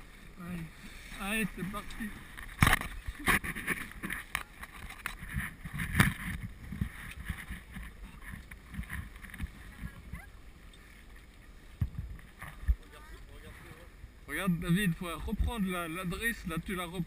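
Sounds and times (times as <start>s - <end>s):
water slapping along hull: 0.0s - 17.0s.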